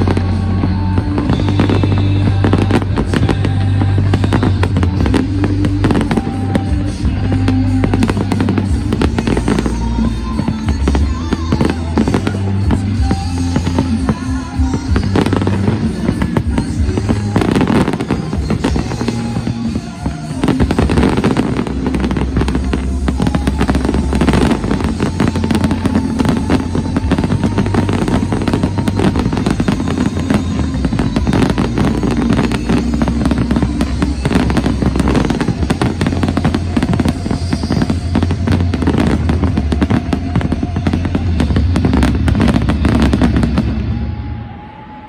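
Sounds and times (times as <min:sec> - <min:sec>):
fireworks bursts and crackling: 0:00.0 - 0:45.0
music playing: 0:00.0 - 0:45.0.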